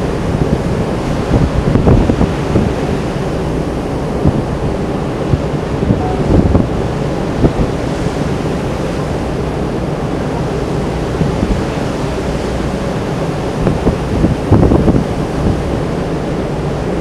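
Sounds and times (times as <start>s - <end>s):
rush of open sea: 0.0s - 17.0s
wind buffeting microphone: 0.0s - 17.0s.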